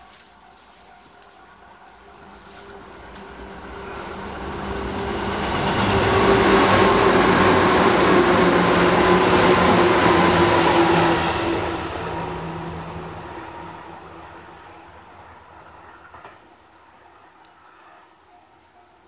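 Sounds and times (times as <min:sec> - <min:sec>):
train wheels rumbling on rails: 0:00.0 - 0:18.3.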